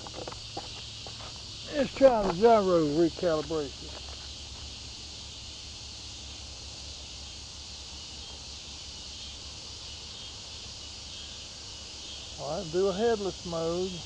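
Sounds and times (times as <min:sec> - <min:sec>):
crickets and insects buzzing: 0:00.0 - 0:14.0.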